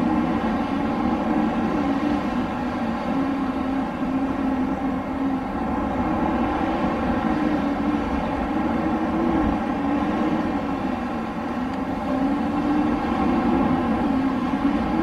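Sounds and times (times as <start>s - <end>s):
wind howling: 0.0s - 15.0s.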